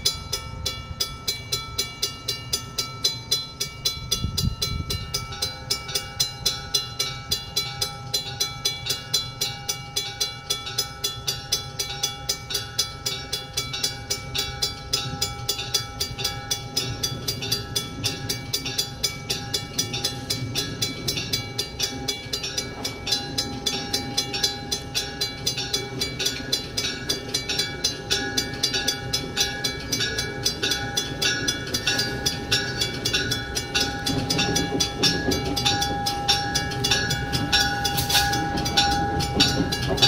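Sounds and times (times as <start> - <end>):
bell ringing rapidly: 0.0 - 40.0
locomotive engine: 0.0 - 40.0.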